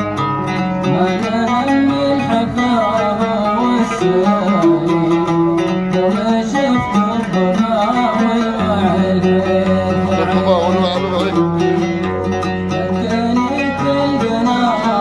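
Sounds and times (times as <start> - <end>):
oud melody: 0.0 - 15.0
man singing: 0.8 - 15.0.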